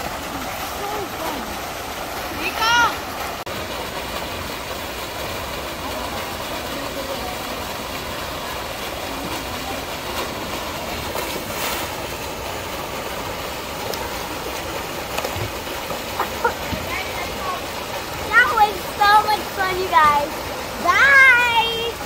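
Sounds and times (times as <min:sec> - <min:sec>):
water gushing into a pool: 0:00.0 - 0:22.0.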